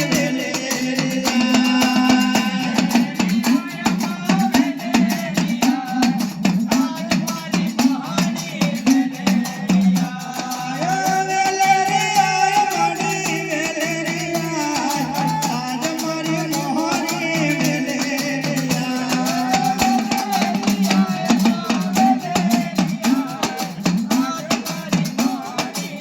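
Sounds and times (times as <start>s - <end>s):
fast steady drumming: 0.0s - 26.0s.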